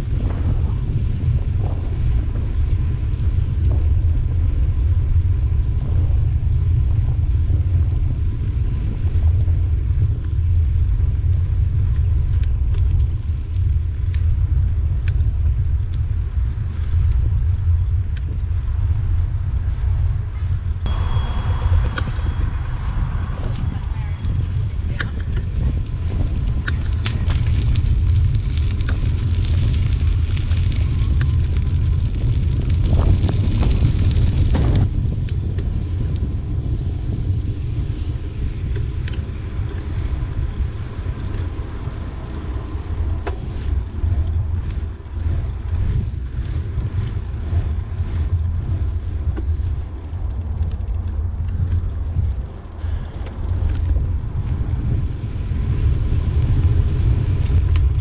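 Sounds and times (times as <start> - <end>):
tyre noise on tarmac: 0.0 - 58.0
wind rumbling on microphone: 0.0 - 58.0.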